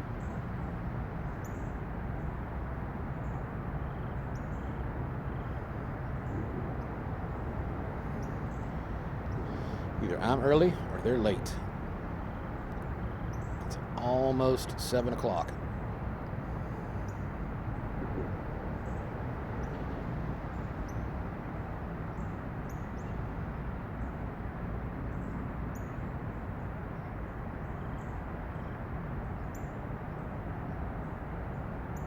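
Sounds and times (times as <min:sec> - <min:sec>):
distant road traffic rumble: 0:00.0 - 0:32.0.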